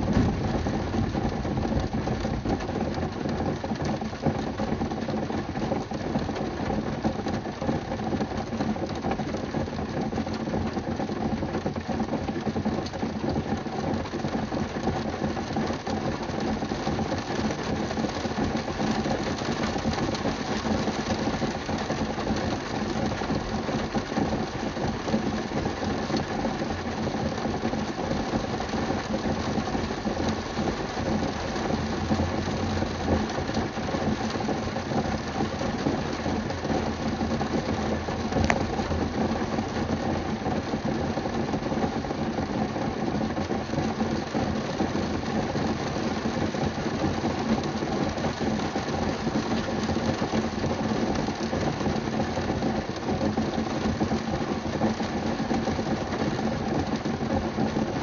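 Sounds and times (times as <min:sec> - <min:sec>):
rain on a car roof: 0:00.0 - 0:58.0.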